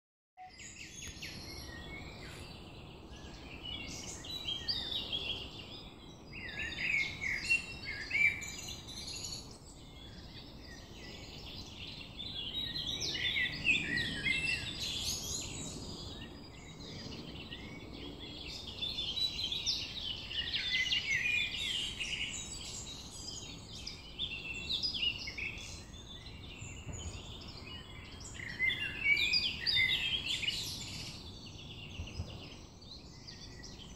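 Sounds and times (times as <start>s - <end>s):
birds chirping and trilling: 0.4s - 33.9s.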